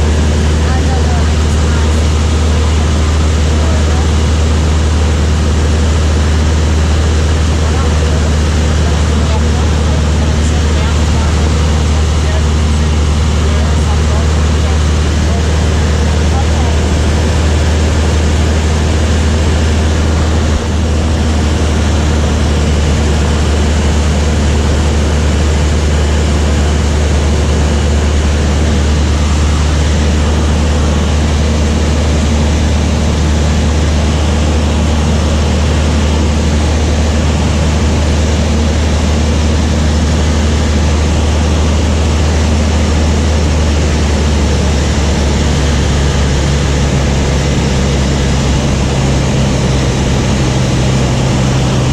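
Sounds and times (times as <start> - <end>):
propeller aircraft engine droning: 0.0 - 51.9.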